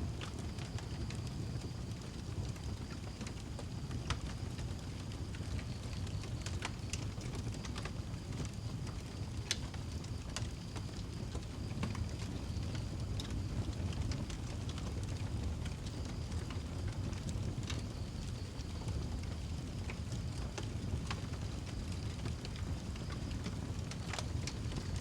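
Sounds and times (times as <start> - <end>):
fire crackling and popping: 0.0 - 25.0
low rumble of flame: 0.0 - 25.0.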